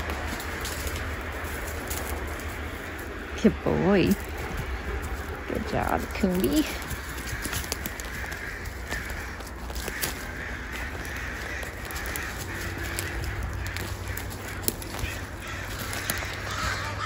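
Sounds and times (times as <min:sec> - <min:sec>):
crows cawing: 0:00.0 - 0:17.0
footsteps on forest floor: 0:00.0 - 0:17.0.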